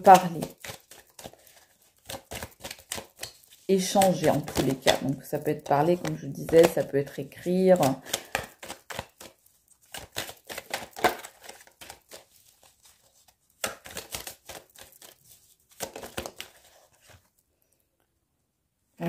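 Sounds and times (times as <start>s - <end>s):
cards being shuffled by hand: 0.0s - 17.4s.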